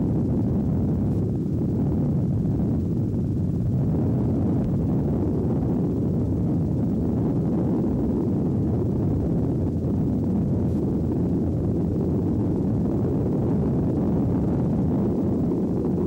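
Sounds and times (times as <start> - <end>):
helicopter engine and rotor rumble: 0.0 - 16.0.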